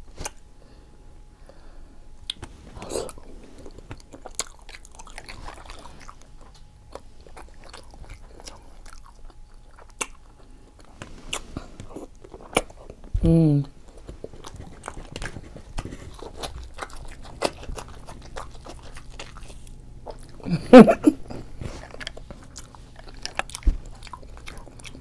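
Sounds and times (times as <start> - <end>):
person chewing with wet smacks: 2.2 - 25.0.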